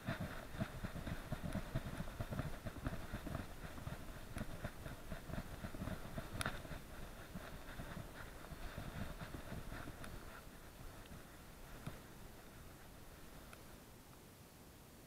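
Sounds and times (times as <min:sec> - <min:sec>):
dog paws thumping ground: 0:00.0 - 0:13.7.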